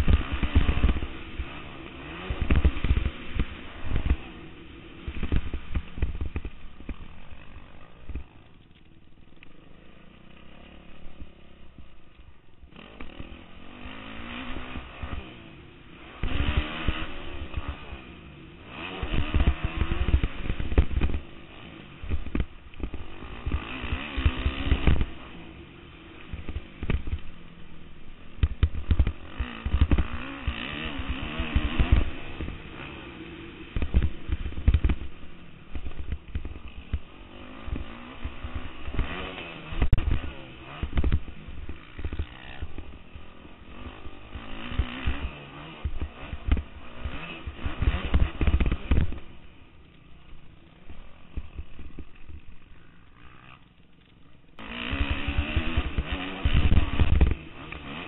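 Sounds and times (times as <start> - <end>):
motorbike engine revving: 0.0 - 8.6, 9.3 - 58.0.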